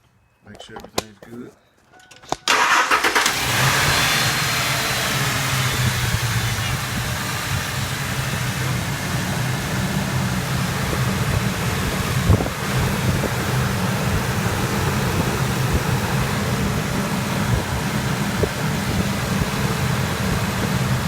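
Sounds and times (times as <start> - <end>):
truck engine idling: 2.6 - 21.0.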